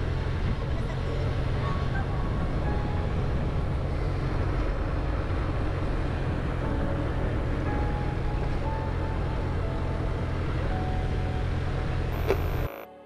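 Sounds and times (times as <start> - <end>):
vehicle rumble on paved road: 0.0 - 12.9.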